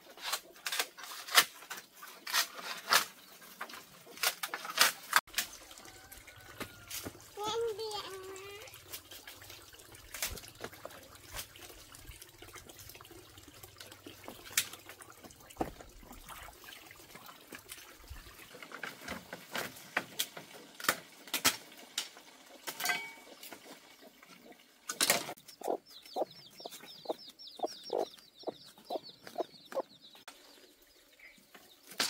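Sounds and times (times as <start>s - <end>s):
water trickling and splashing: 0.2s - 32.0s.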